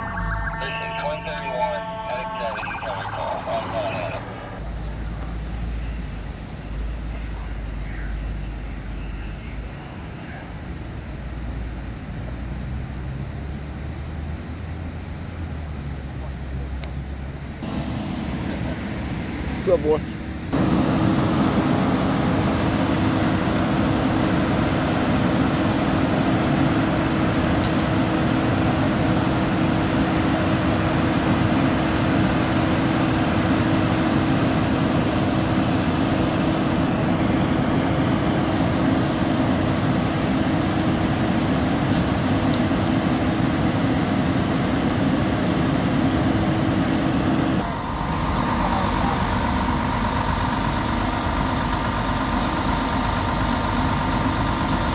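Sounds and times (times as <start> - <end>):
diesel engines droning: 0.0 - 54.9
fire engine idling: 0.0 - 54.9.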